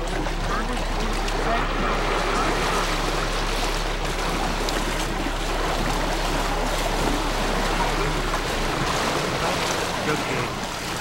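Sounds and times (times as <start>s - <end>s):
paddle strokes churning water: 0.0s - 11.0s
water rushing along canoe hull: 0.0s - 11.0s.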